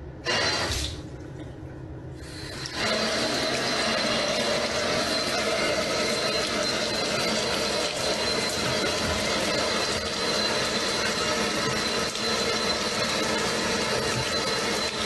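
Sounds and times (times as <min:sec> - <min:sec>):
water running from tap into sink: 0:02.3 - 0:15.0.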